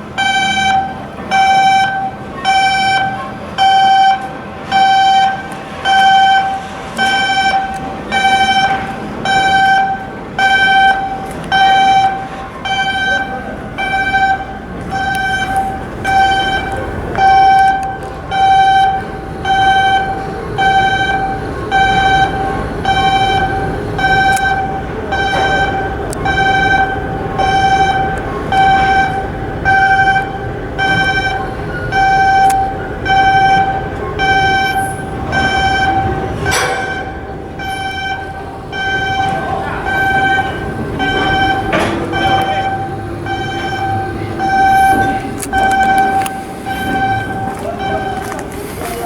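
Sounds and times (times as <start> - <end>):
shipyard work noise: 0.0 - 49.0
warning alarm beeping: 0.0 - 49.0.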